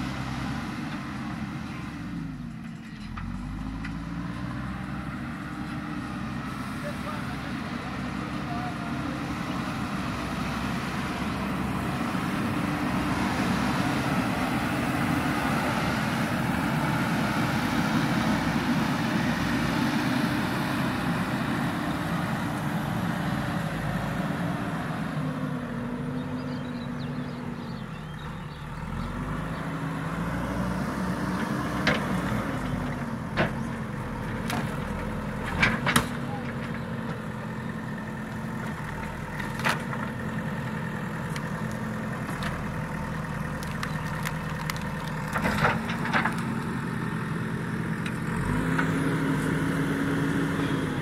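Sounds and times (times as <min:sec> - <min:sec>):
diesel engine of backhoe loader: 0:00.0 - 0:51.0.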